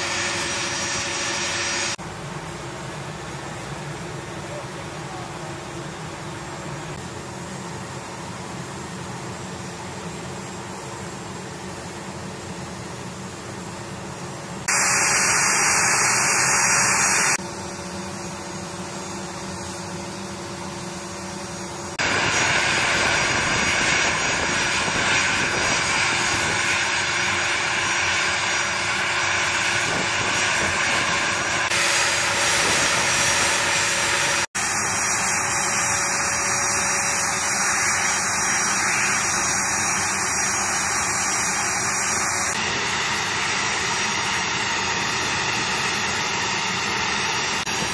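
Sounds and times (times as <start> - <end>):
jet engines idling: 0.0 - 47.9.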